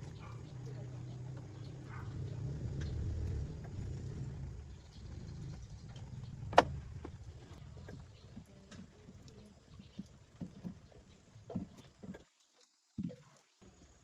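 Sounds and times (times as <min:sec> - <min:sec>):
low engine rumble: 0:00.0 - 0:11.8.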